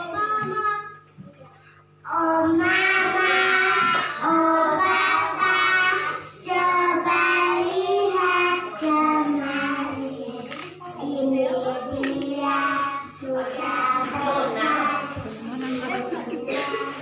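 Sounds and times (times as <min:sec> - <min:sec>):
children singing: 0:02.1 - 0:17.0.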